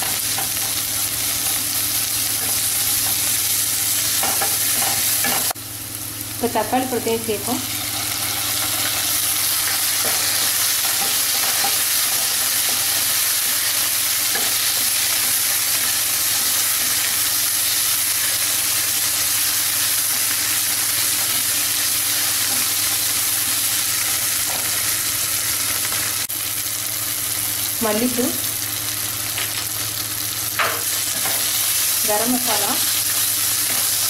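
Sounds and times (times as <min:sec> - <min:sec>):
vegetables sizzling in hot oil: 0:00.0 - 0:34.0.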